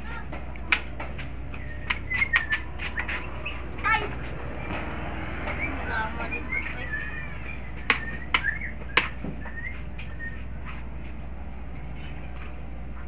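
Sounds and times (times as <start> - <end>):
low background hum: 0.0 - 13.0
small birds chirping: 0.1 - 10.9.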